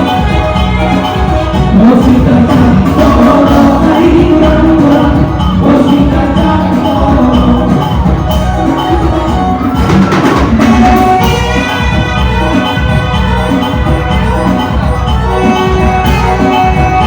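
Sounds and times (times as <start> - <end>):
loud band music: 0.0 - 17.0.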